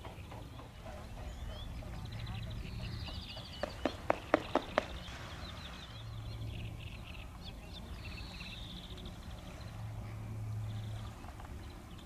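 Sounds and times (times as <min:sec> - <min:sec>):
low hum: 0:00.0 - 0:12.0
small songbirds chirping: 0:00.0 - 0:12.0.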